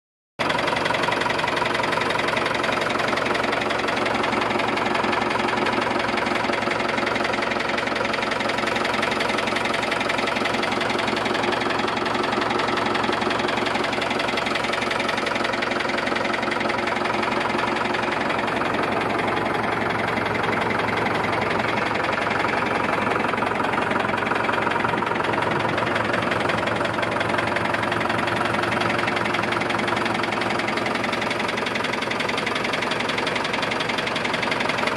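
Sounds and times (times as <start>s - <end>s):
tractor diesel engine idling: 0.4s - 34.9s.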